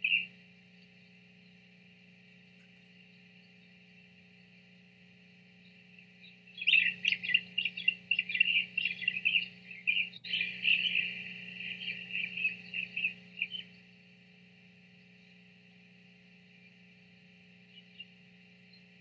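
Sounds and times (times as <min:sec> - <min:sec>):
faint steady hum: 0:00.0 - 0:19.0
songbird chirping: 0:00.0 - 0:19.0.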